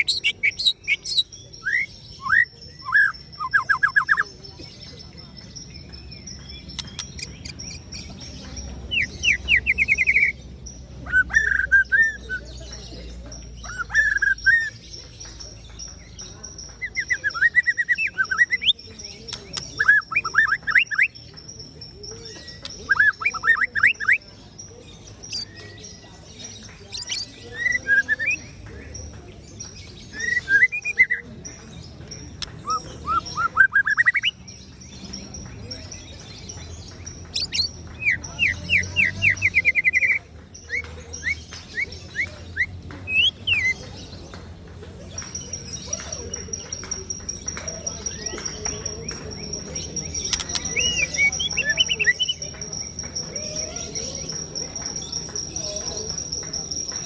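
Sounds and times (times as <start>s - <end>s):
songbird whistling and trilling: 0.0s - 12.8s, 13.5s - 24.2s, 25.2s - 28.6s, 29.6s - 31.7s, 32.4s - 44.1s, 45.1s - 57.0s.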